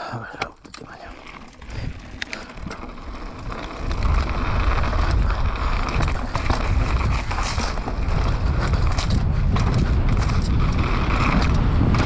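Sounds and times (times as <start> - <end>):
bike clicks and rattles: 0.2 - 12.0
bike rolling on gravel: 0.8 - 12.0
wind rumbling on microphone: 0.9 - 12.0.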